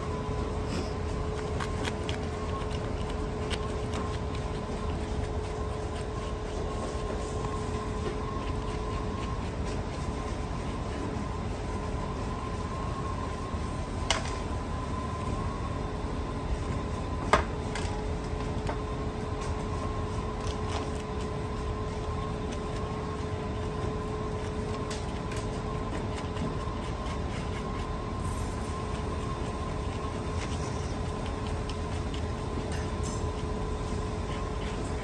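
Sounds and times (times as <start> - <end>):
machine hum with high whine: 0.0 - 35.0.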